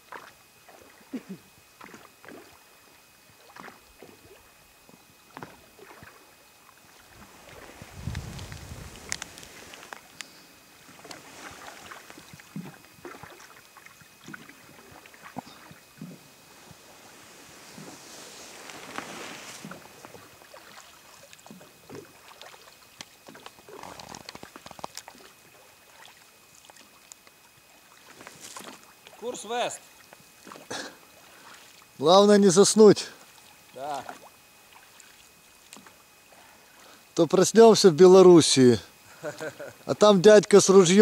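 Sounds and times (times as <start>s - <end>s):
paddle splashes and drips: 0.0s - 32.0s, 33.2s - 37.1s
water swishes: 0.0s - 37.2s.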